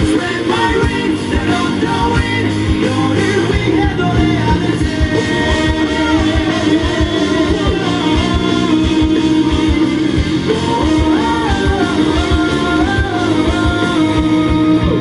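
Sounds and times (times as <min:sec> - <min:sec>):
bass guitar: 0:00.0 - 0:15.0
melodic guitar line: 0:00.0 - 0:15.0
person singing: 0:00.0 - 0:15.0
steady drum beat: 0:00.0 - 0:15.0.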